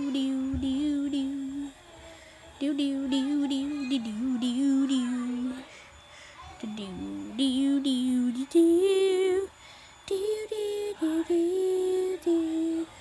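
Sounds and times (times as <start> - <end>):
girl singing a wordless tune: 0.0 - 13.0.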